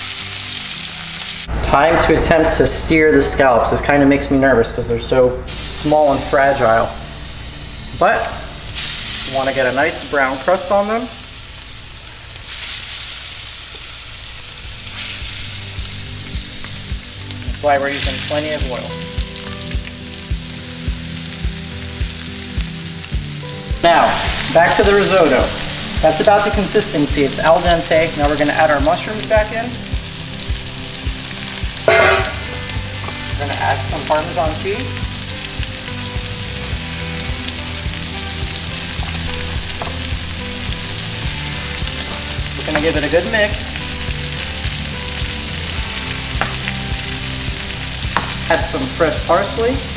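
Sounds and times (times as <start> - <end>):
scallops sizzling in hot oil: 0.0 - 1.5, 5.5 - 49.9.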